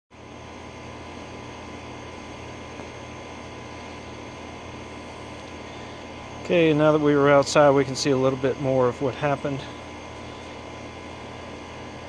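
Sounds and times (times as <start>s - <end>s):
steady machine drone: 0.2s - 12.0s.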